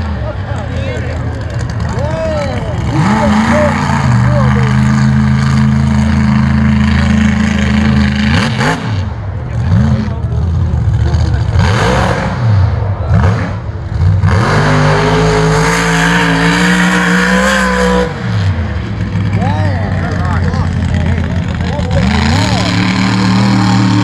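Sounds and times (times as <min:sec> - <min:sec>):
pickup engine revving: 0:00.0 - 0:24.0.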